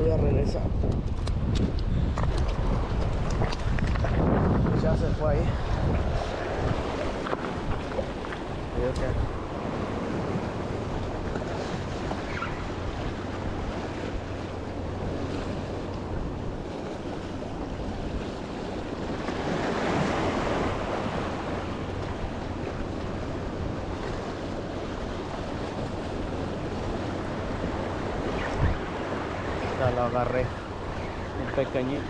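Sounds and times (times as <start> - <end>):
ocean waves breaking on rocks: 0.0 - 32.0.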